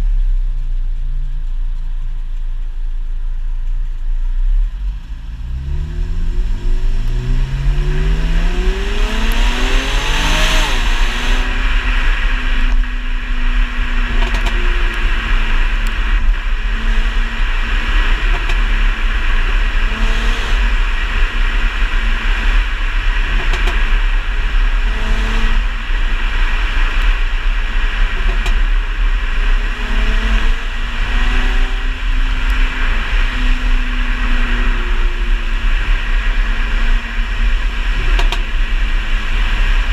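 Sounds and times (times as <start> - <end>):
car engine accelerating: 0.0 - 39.9
exhaust pops and crackles: 0.0 - 39.9
rushing noise: 4.6 - 39.9.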